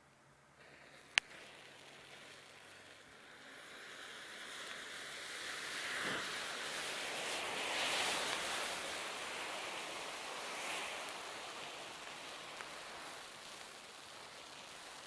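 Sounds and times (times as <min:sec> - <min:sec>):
matches catching fire hiss: 0:00.6 - 0:15.0.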